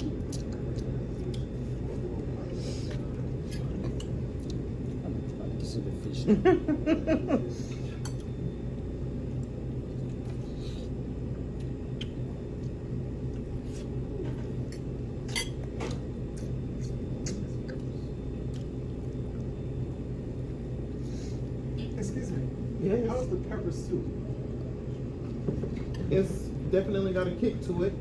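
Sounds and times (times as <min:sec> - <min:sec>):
restaurant room hum: 0:00.0 - 0:28.0.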